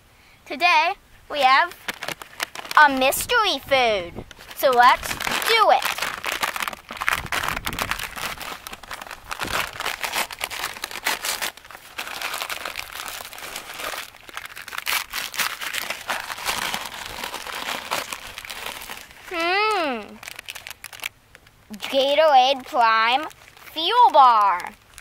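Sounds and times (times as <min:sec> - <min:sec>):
paper bag crinkling: 0:01.4 - 0:25.0.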